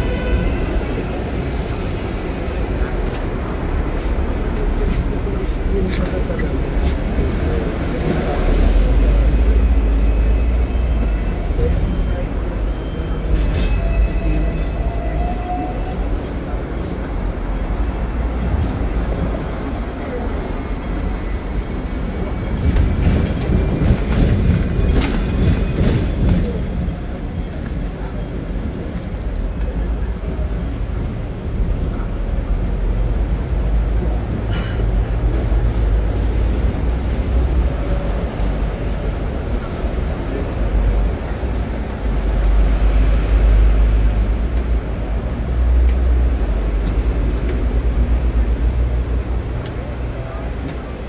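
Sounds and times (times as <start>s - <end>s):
tram rumbling along track: 0.0s - 51.0s.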